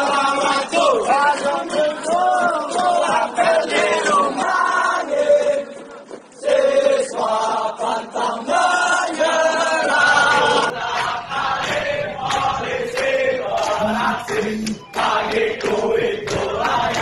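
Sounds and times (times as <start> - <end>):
group of men chanting in unison: 0.0 - 17.0.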